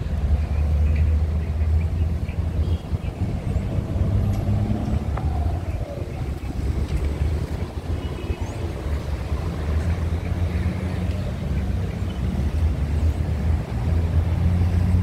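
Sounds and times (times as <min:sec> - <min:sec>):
city street traffic: 0:00.0 - 0:15.0
vehicle passing: 0:00.0 - 0:15.0
wind rumbling on microphone: 0:00.0 - 0:15.0.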